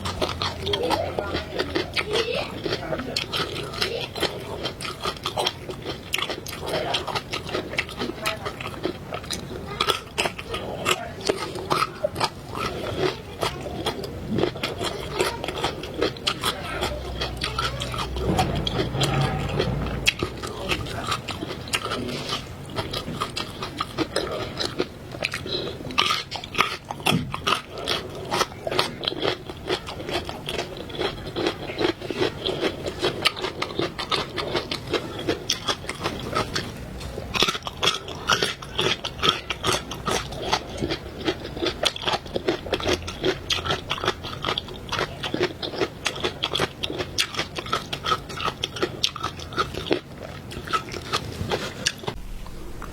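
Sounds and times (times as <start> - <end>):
crunchy chewing: 0.0 - 52.9.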